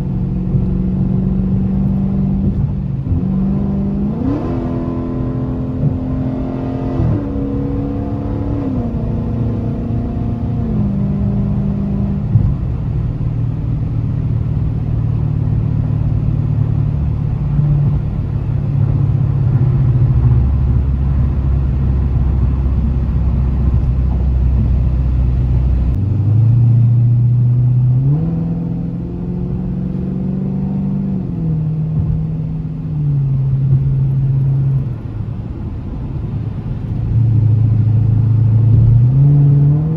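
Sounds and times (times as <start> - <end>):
car engine shifting gears: 0.0 - 39.9.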